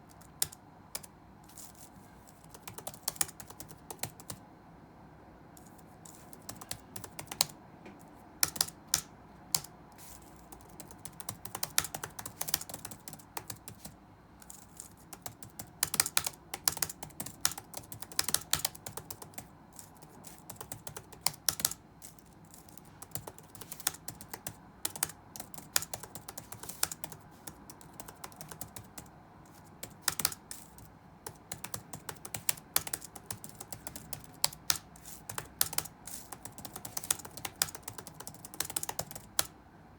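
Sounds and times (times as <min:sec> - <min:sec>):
computer keyboard typing: 0:00.0 - 0:04.4, 0:05.6 - 0:39.5.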